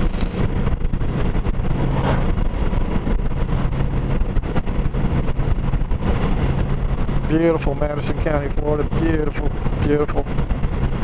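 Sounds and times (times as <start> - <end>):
motorcycle engine hum: 0.0 - 11.0
wind buffeting microphone: 0.0 - 11.0.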